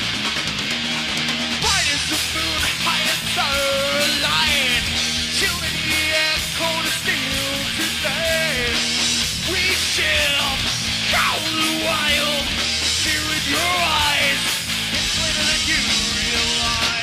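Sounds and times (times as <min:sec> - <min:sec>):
bass guitar: 0:00.0 - 0:17.0
distorted electric guitars: 0:00.0 - 0:17.0
drum kit: 0:00.0 - 0:17.0
person singing: 0:01.6 - 0:08.8, 0:09.4 - 0:17.0.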